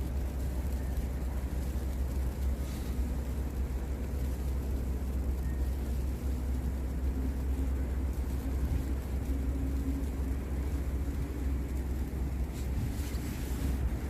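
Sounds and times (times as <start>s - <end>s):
faint engine hum: 0.0s - 14.0s
passing road traffic rumble: 0.0s - 14.0s.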